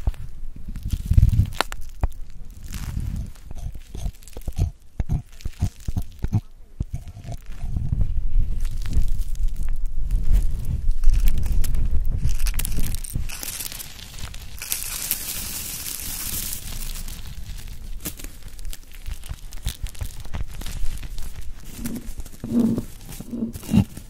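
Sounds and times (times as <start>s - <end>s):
crackling and crinkling: 0.0s - 24.0s
low rumble: 0.0s - 24.0s.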